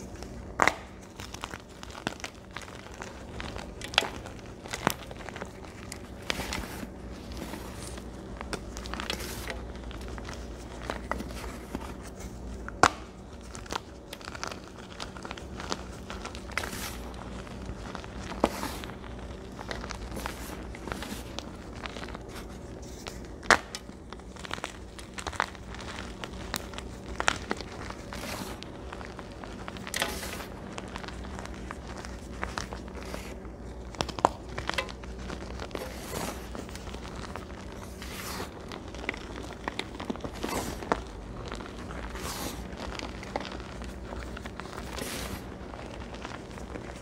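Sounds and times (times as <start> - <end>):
chalk crunching in hands: 0.0 - 47.0
soft presses of powder: 0.0 - 47.0.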